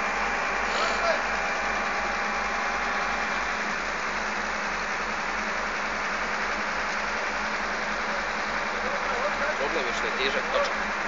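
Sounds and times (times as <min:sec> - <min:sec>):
heavy machinery engines droning: 0:00.0 - 0:11.0.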